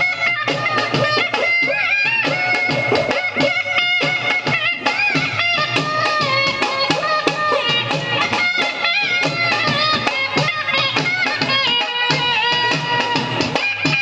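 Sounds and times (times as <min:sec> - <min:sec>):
ornamented bending melody: 0:00.0 - 0:11.3
steady drum beat: 0:00.0 - 0:14.0.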